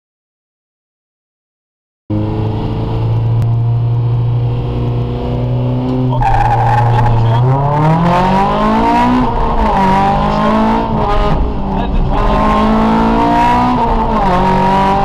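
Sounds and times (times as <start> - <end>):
car engine revving: 2.1 - 15.0.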